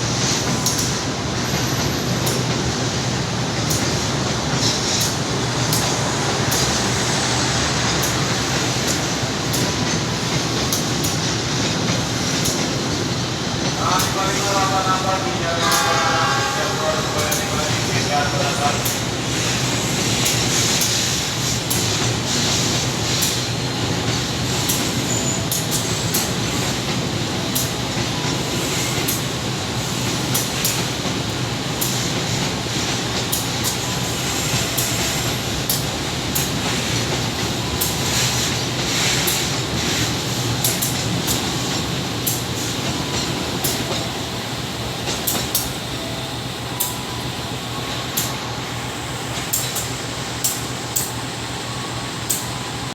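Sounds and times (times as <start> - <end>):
freight train rumbling on rails: 0.0 - 52.9.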